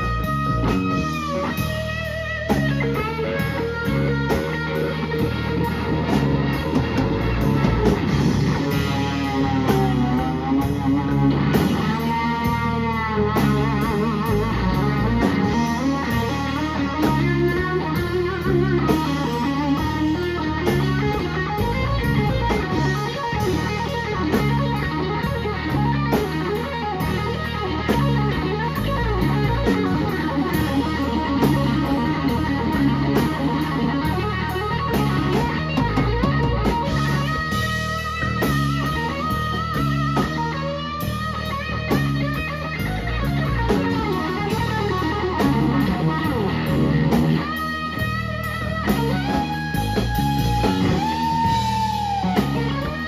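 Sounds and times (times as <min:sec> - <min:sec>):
drum kit: 0:00.0 - 0:53.0
electric bass: 0:00.0 - 0:53.0
electric guitar lead with bends: 0:00.0 - 0:53.0.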